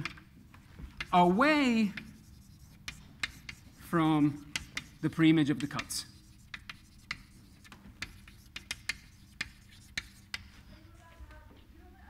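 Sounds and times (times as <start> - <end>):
chalk tapping on blackboard: 0.8 - 10.6.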